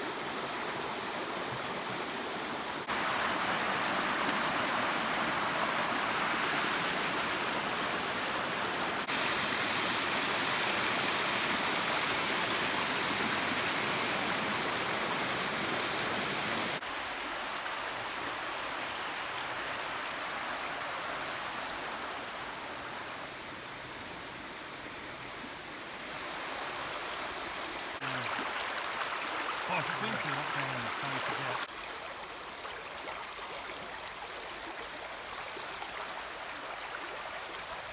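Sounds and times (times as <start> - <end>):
river water rushing: 0.0 - 23.1, 25.8 - 37.9.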